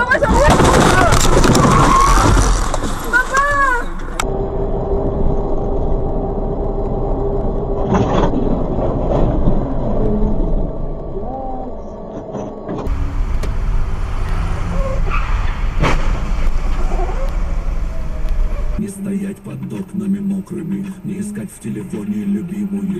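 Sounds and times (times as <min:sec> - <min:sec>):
car road and engine noise: 0:00.0 - 0:22.9.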